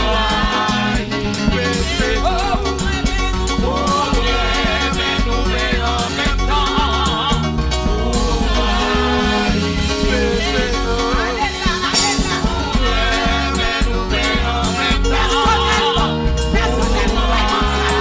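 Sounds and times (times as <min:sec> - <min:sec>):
band with bass and drums: 0:00.0 - 0:18.0
congregation singing: 0:00.0 - 0:18.0.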